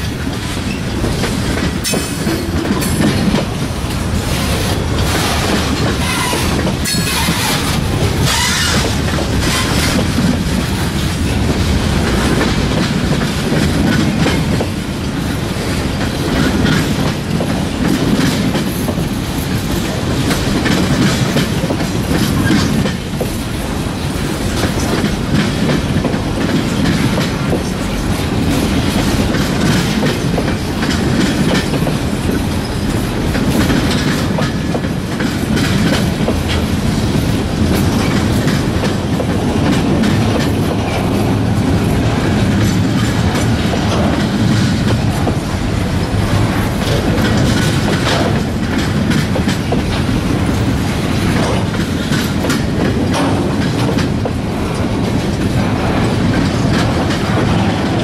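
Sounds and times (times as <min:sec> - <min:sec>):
steel wheels on rail: 0:00.0 - 0:58.0
wheels clicking over rail joints: 0:00.0 - 0:58.0.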